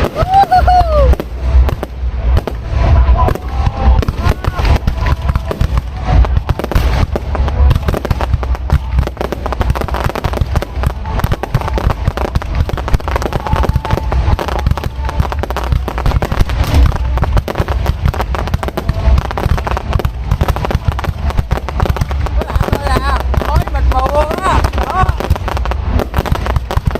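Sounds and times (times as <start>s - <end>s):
deep fireworks booms: 0.0s - 26.9s
fireworks bangs and crackles: 0.0s - 26.9s.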